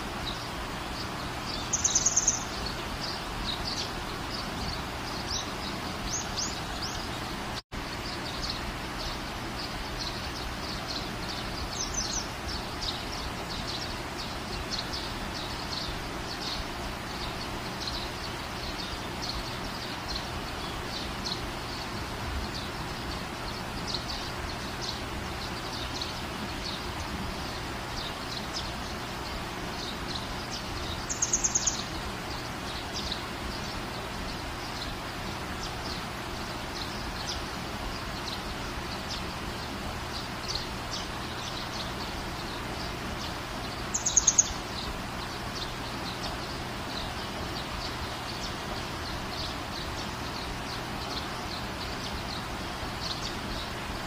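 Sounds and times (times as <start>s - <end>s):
small birds chirping: 0.0s - 54.0s
steady background hiss: 0.0s - 54.0s.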